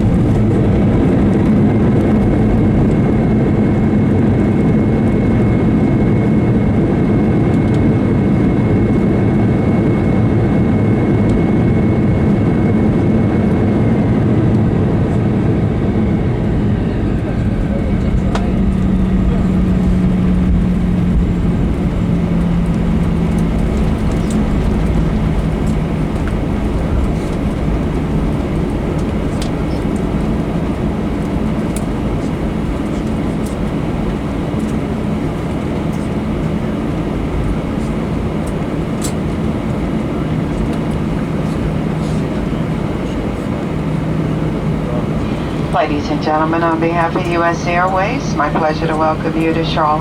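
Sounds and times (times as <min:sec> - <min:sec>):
aircraft cabin rumble: 0:00.0 - 0:50.0
low jet engine hum: 0:00.0 - 0:50.0.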